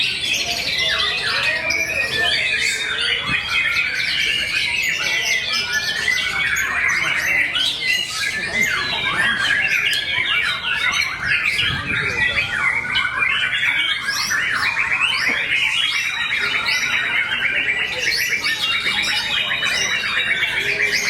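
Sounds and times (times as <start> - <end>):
songbirds chorus: 0.0 - 21.0.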